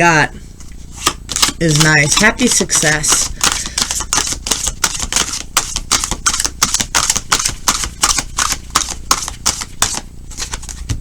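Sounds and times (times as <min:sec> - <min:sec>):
cards being shuffled: 0:00.7 - 0:11.0.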